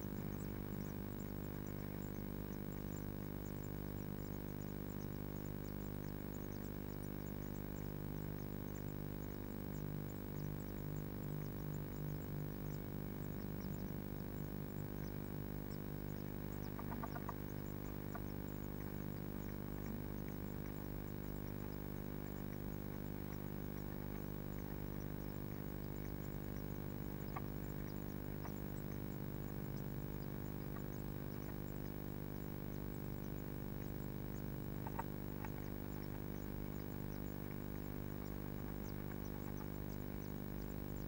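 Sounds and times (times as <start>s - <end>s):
electrical mains hum: 0.0s - 41.0s
faint high-pitched ticks: 0.0s - 41.0s.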